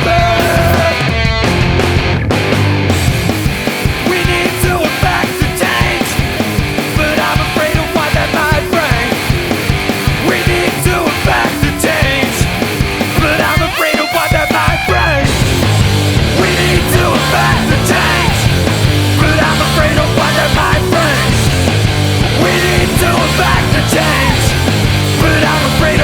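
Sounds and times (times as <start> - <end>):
loud instrumental rock music: 0.0 - 26.0.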